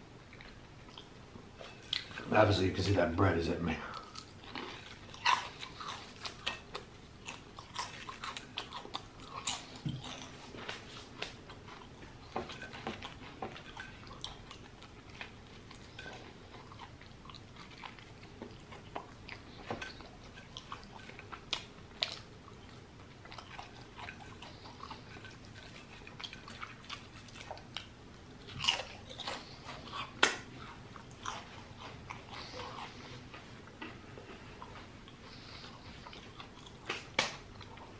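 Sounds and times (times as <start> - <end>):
person chewing sandwich: 0.1 - 2.5, 3.8 - 37.9.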